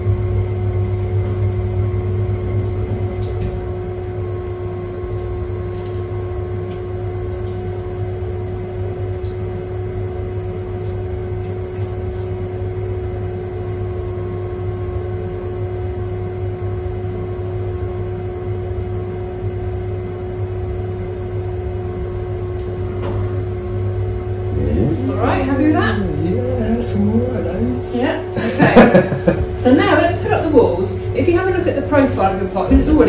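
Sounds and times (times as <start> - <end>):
potter's wheel motor humming: 0.0 - 33.0.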